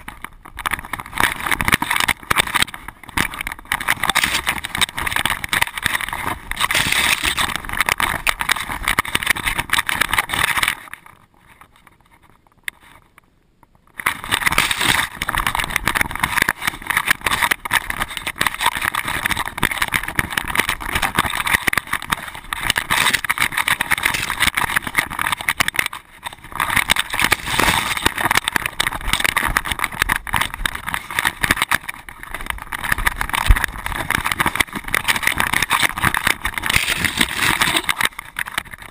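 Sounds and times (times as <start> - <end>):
camera rattling against dog: 0.0 - 38.9.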